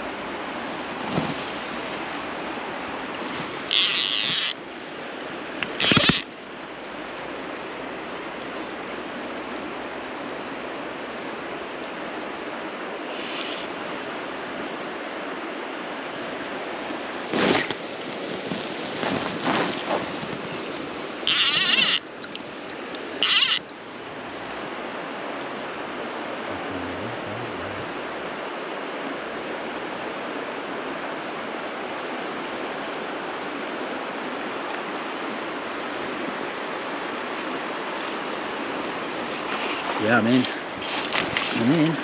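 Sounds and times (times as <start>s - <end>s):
river water flowing: 0.0s - 42.0s.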